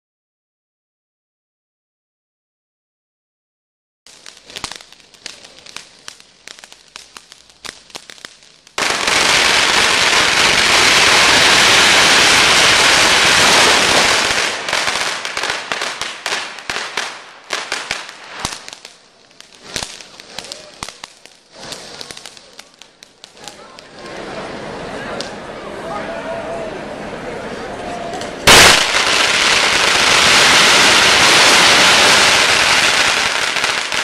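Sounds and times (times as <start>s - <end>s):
firecrackers crackling: 4.1s - 25.5s, 28.1s - 34.0s.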